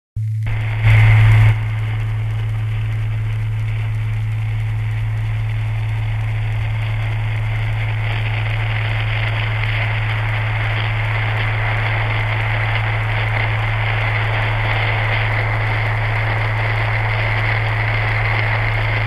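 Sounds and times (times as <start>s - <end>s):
low hum: 0.2s - 19.0s.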